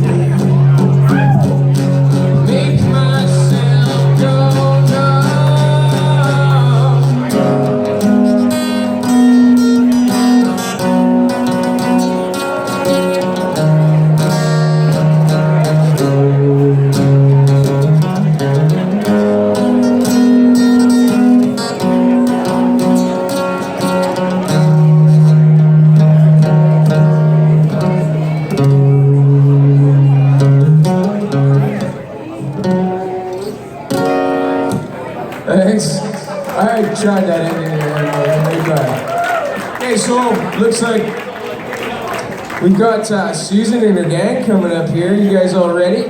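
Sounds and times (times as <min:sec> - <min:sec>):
guitar chords: 0:00.0 - 0:39.0.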